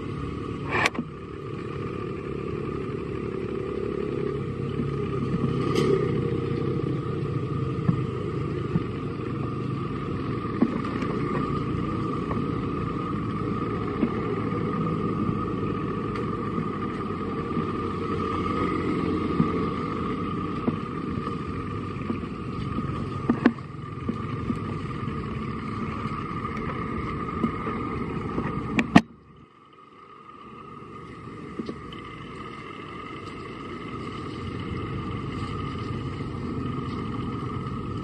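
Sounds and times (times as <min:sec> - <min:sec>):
continuous high hum: 0:00.0 - 0:38.0.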